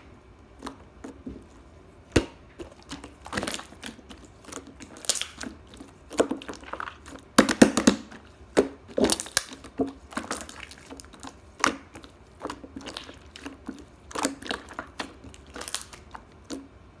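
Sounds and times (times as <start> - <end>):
crackling and crinkling: 0.0 - 16.8.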